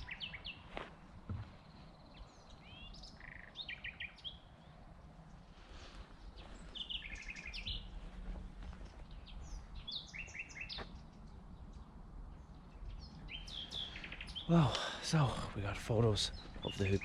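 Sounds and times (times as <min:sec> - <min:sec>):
songbird chirps and trills: 0:00.0 - 0:17.0.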